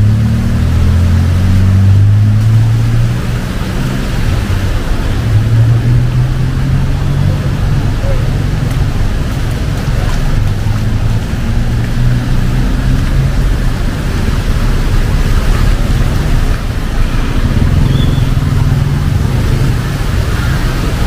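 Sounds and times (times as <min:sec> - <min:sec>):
rain: 0:00.0 - 0:21.0
sloshing water: 0:00.0 - 0:21.0
vehicle engines running: 0:00.0 - 0:21.0.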